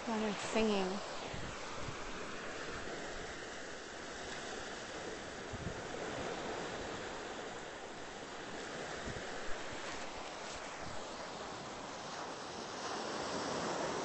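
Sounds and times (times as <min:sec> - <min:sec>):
ocean surf washing onto beach: 0:00.0 - 0:14.0
wind rumbling on microphone: 0:00.0 - 0:14.0.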